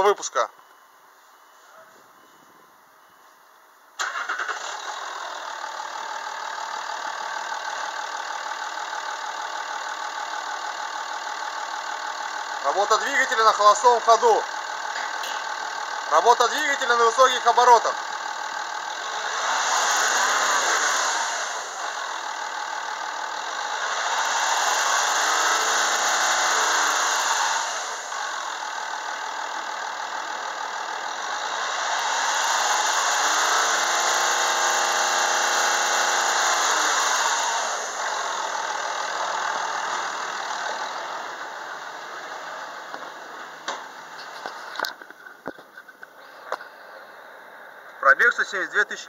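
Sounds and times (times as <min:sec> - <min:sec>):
diesel engine revving: 0:04.0 - 0:45.1.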